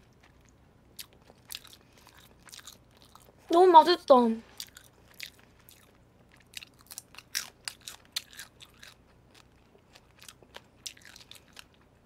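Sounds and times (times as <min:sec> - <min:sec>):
chewing shrimp crunches: 0:00.0 - 0:03.5, 0:04.5 - 0:12.0.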